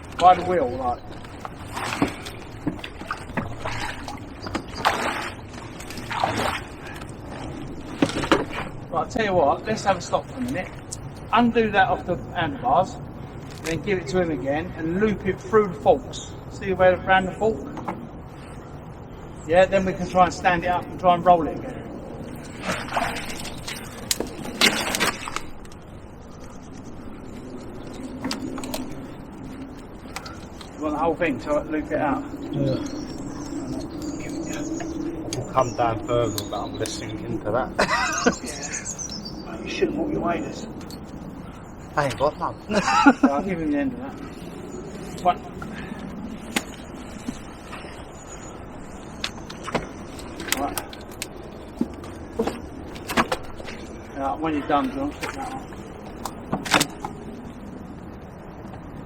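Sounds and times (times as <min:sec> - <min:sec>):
water and mud splashing: 0:00.0 - 0:15.8, 0:19.7 - 0:58.6
low outdoor noise: 0:00.0 - 0:59.0.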